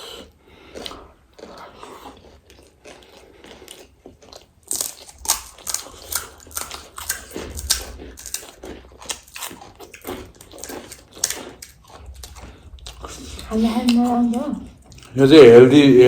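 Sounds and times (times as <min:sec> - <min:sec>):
crunching and chewing snack food: 0:00.0 - 0:15.4.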